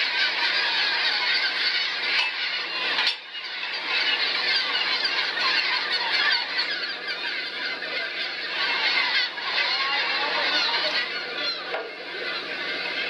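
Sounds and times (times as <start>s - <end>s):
flock of gulls calling: 0.0s - 13.0s.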